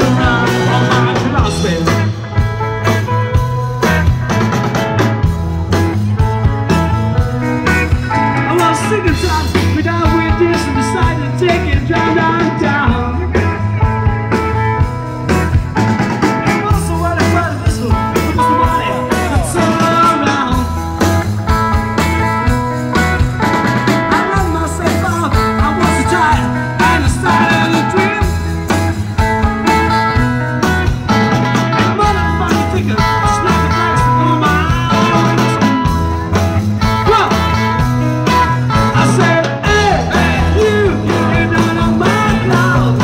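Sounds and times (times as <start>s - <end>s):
blues-rock band playing live: 0.0s - 43.0s
electric guitar: 0.0s - 43.0s.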